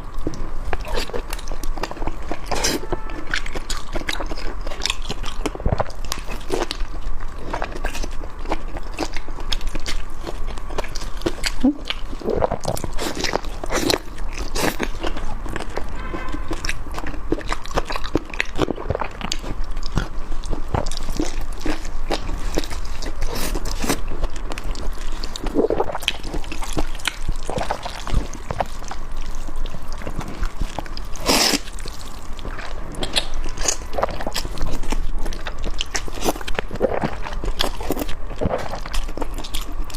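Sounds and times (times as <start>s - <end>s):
chewing and slurping noodles: 0.0s - 39.9s.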